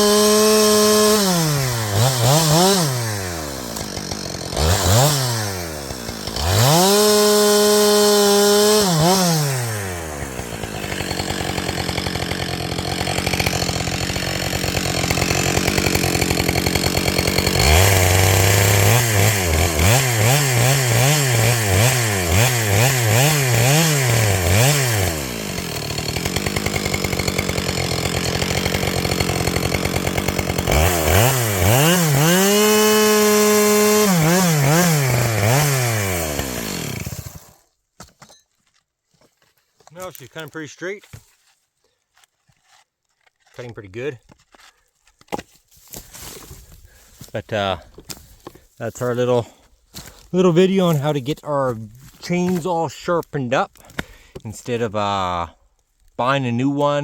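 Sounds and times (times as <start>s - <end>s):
chainsaw revving and idling: 0.0s - 37.7s, 45.8s - 55.6s.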